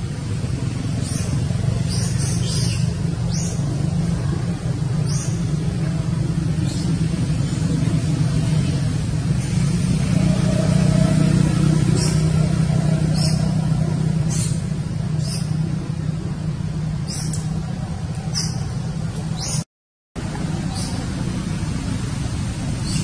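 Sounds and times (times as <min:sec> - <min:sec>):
low engine-like hum: 0:00.0 - 0:19.6, 0:20.2 - 0:23.0.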